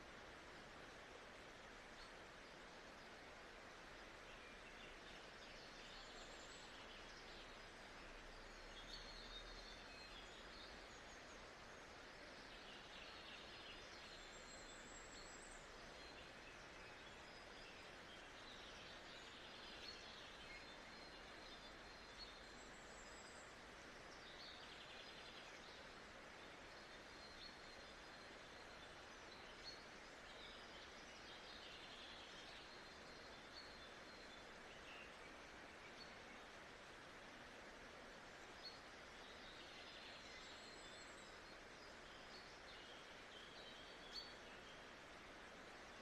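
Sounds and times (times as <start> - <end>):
birds chirping softly: 0.0 - 46.0
steady hiss: 0.0 - 46.0.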